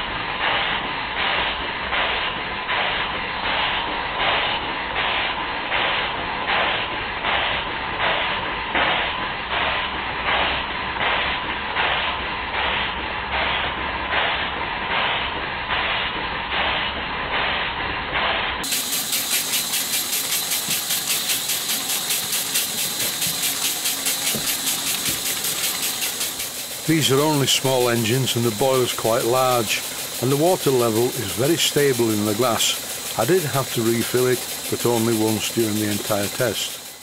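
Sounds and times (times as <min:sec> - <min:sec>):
steam engine exhaust puffs: 0:00.0 - 0:37.0
steam hiss: 0:00.0 - 0:37.0.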